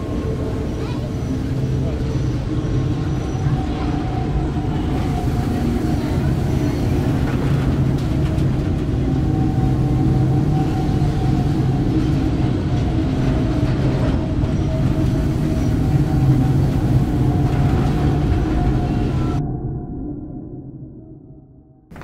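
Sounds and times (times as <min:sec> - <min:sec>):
droning tones: 0:00.0 - 0:22.0.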